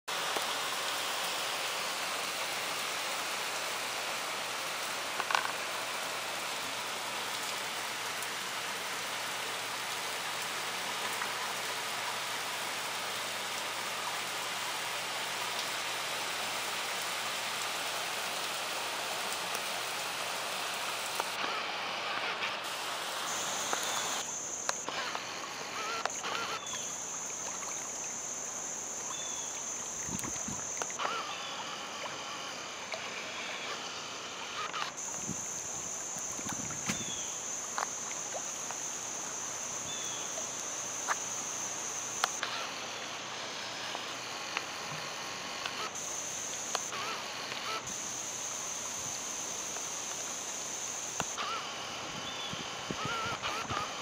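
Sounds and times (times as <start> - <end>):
faint high whine: 0.1 - 54.0
heavy rain hissing: 0.1 - 54.0.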